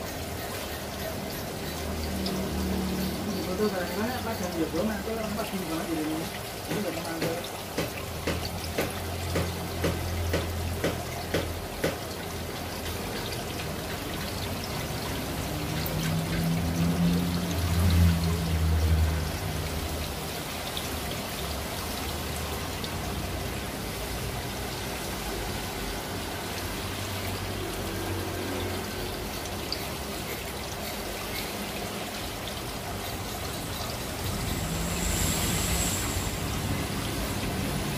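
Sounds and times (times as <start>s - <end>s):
aquarium water trickling and splashing: 0.0s - 37.9s.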